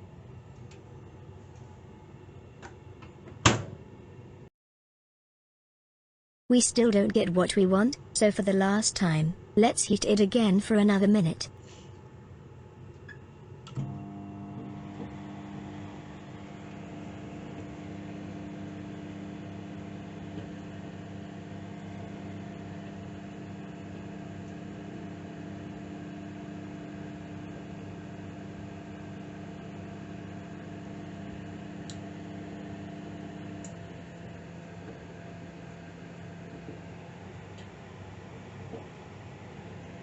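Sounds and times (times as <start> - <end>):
microwave oven humming: 6.6 - 40.0.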